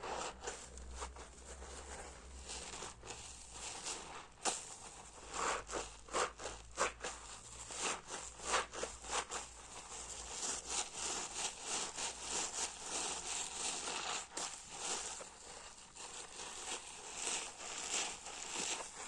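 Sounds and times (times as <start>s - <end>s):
foamy sponge squeezing: 0.0s - 19.0s.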